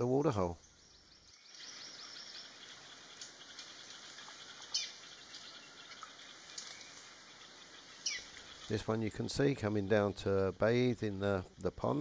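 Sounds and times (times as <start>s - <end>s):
faint forest hiss: 0.0s - 12.0s.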